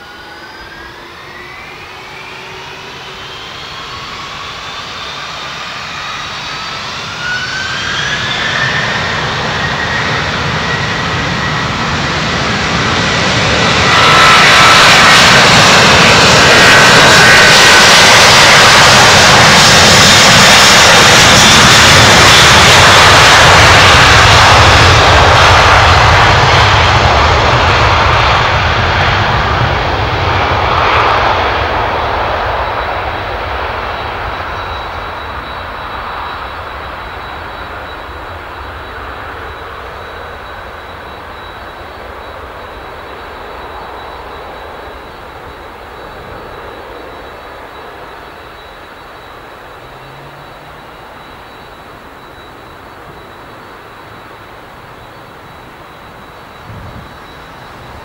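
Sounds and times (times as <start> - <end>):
jet engines spooling up: 0.0 - 58.0
jet roar of airliner takeoff: 0.0 - 58.0.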